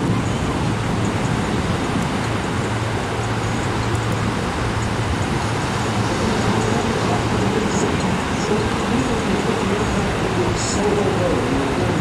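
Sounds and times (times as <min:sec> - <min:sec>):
aircraft engines droning overhead: 0:00.0 - 0:12.0.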